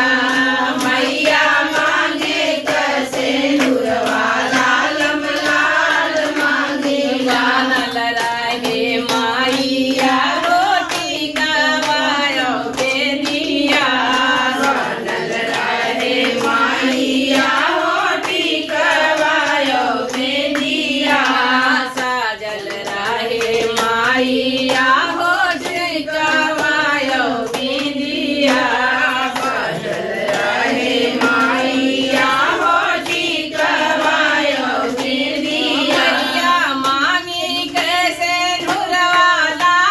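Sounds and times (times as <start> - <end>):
hand claps: 0.0 - 39.9
women singing folk song in unison: 0.0 - 39.9.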